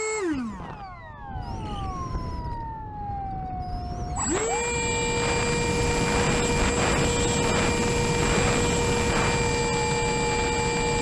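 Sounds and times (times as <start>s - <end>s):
electric motor and propeller whine: 0.0s - 11.0s
wind rushing over microphone: 1.4s - 11.0s.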